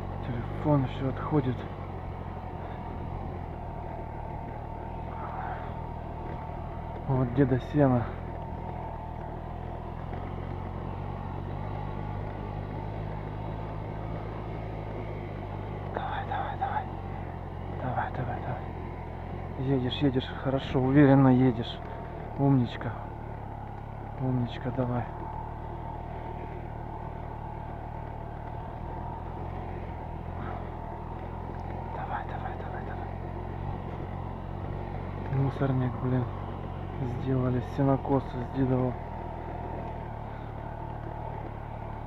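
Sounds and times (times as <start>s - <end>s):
scooter engine rattling and knocking: 0.0s - 42.0s.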